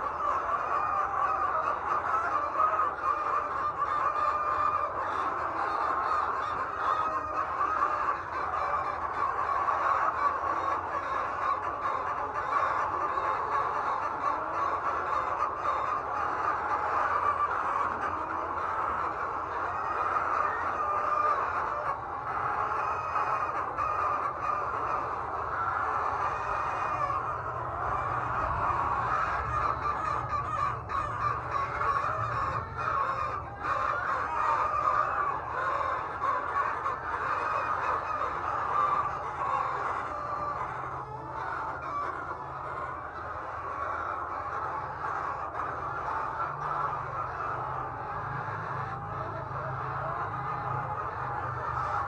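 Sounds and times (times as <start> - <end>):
hens clucking and squawking: 0.0 - 52.0.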